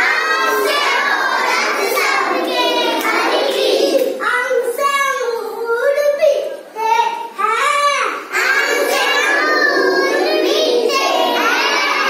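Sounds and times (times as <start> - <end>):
children singing a rhyme: 0.0 - 6.1, 7.4 - 12.0.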